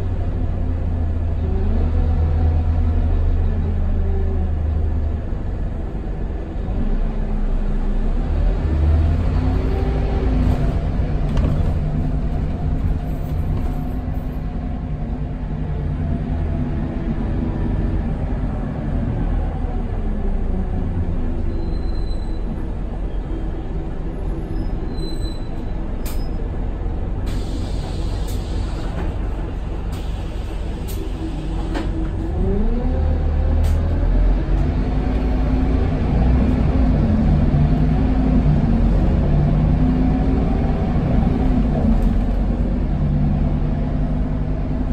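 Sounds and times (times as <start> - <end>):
bus diesel engine: 0.0 - 44.9.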